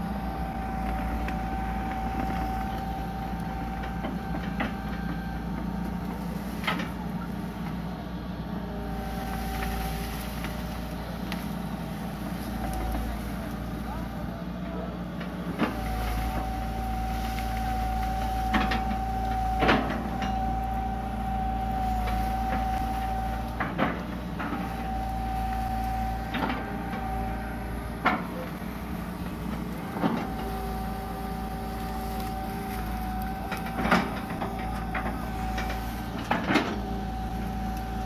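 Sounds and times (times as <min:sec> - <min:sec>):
hydraulic whine: 0:00.0 - 0:14.6, 0:15.2 - 0:38.0
diesel engine running: 0:00.0 - 0:38.0.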